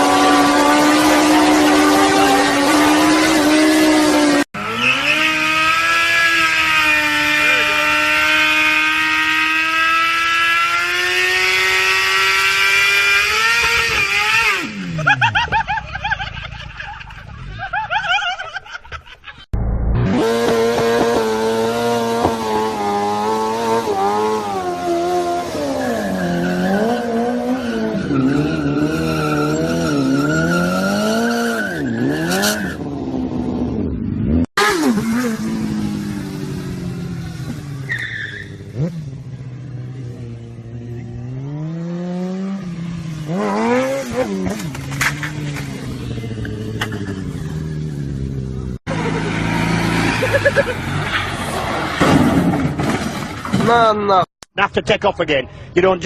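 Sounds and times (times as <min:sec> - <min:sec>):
vehicle engines revving: 0:00.0 - 0:18.1, 0:19.9 - 0:53.7.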